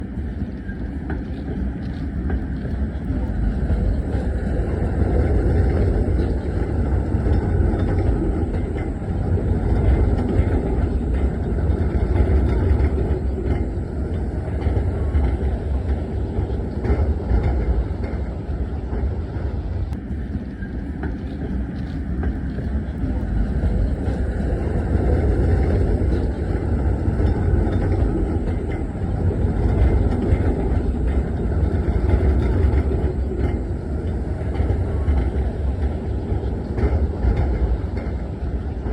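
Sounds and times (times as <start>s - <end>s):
tram rumbling on track: 0.0s - 38.9s.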